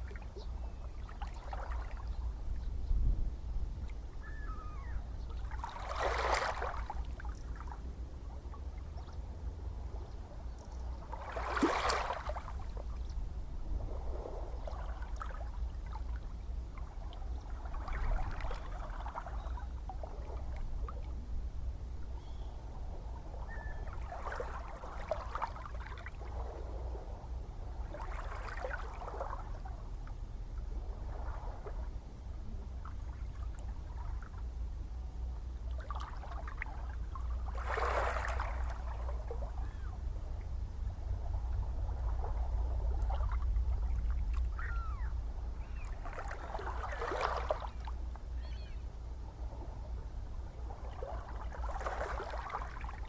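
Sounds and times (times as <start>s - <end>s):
low rumble of surf: 0.0s - 53.0s
gentle ocean waves washing in: 3.8s - 53.0s.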